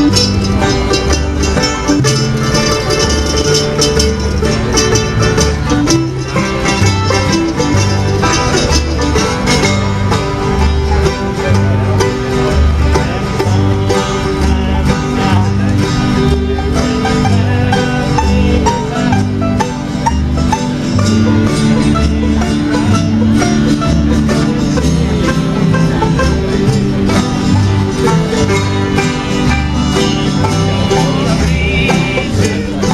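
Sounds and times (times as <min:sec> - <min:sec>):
bass alternating two low notes: 0:00.0 - 0:32.9
guitar: 0:00.0 - 0:32.9
picked banjo: 0:00.0 - 0:32.9.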